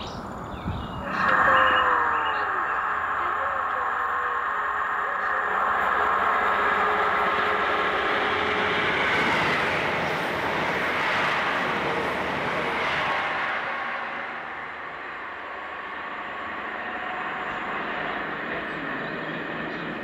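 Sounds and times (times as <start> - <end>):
passenger train passing: 0.0 - 20.0.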